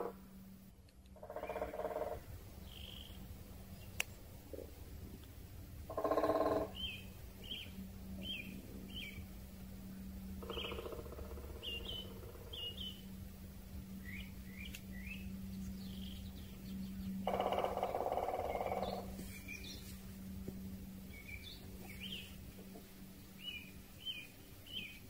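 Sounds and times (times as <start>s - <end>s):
birds chirping: 1.2s - 4.0s, 5.9s - 25.0s.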